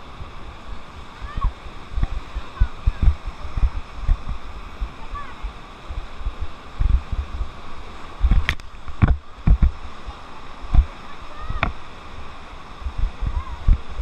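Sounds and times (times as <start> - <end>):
rushing water: 0.0 - 14.0
water splashing: 0.0 - 14.0
wind on microphone: 0.0 - 14.0.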